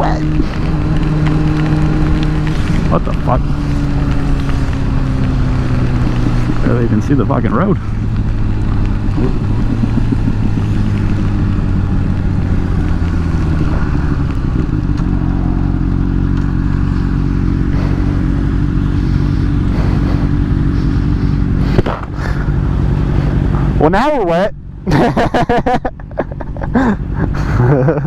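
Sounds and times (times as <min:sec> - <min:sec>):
wind and rain hiss: 0:00.0 - 0:27.9
motorcycle engine running: 0:00.0 - 0:28.0.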